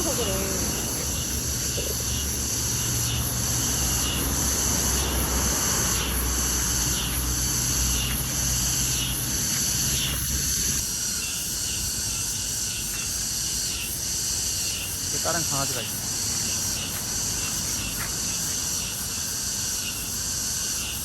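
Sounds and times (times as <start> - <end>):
high continuous insect note: 0.0 - 21.0
insects chirping in pulses: 0.0 - 21.0.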